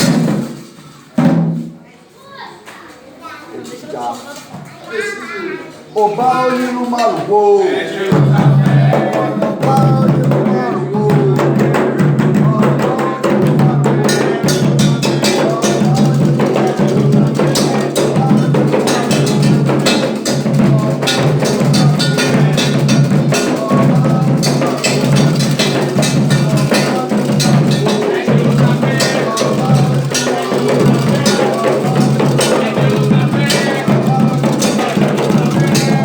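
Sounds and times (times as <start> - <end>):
drums playing dense rhythm: 0.0 - 1.9, 8.0 - 36.0.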